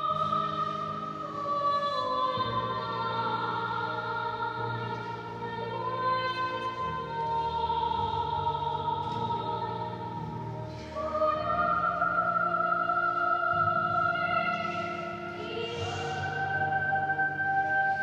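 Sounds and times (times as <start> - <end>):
woman singing operatically: 0.0 - 10.2, 11.0 - 18.0.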